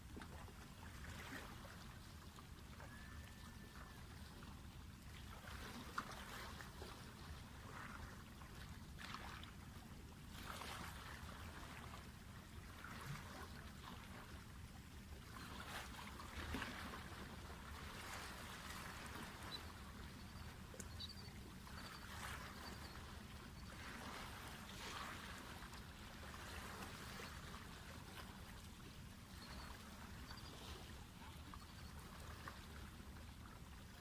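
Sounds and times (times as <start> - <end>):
small waves lapping: 0.0 - 34.0.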